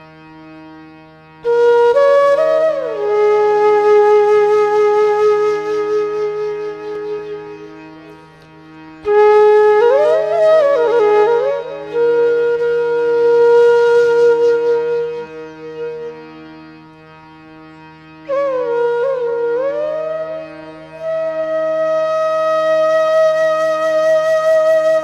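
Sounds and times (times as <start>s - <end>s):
steady drone: 0.0s - 25.0s
woodwind playing slow phrases: 0.0s - 25.0s.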